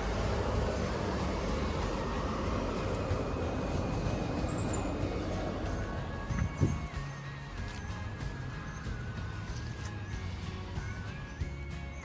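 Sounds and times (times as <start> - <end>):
low rumble: 0.0 - 11.3
held wavering music tone: 0.0 - 12.0.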